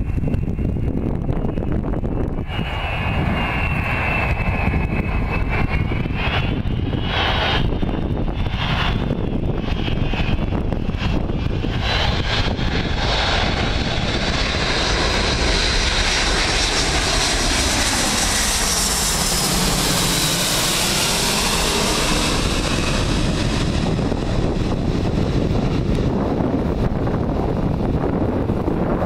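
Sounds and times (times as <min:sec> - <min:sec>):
jet engines roaring overhead: 0:00.0 - 0:29.0.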